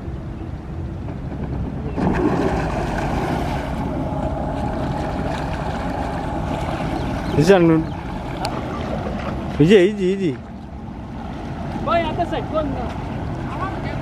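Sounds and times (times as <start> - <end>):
jet ski engine: 0.0 - 14.0
water noise: 0.0 - 14.0
wind buffeting microphone: 0.0 - 14.0.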